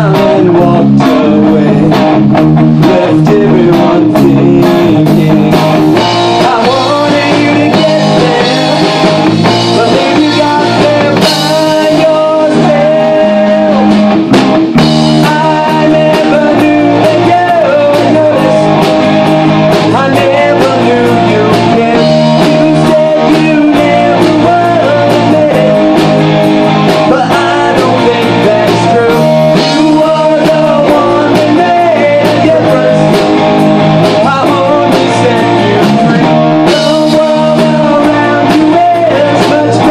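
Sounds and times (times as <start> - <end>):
person singing: 0.0 - 2.2, 2.8 - 14.1, 15.1 - 19.0, 19.7 - 26.3, 27.0 - 39.9
bass guitar: 0.0 - 39.9
drum kit: 0.0 - 39.9
electric guitar: 0.0 - 39.9.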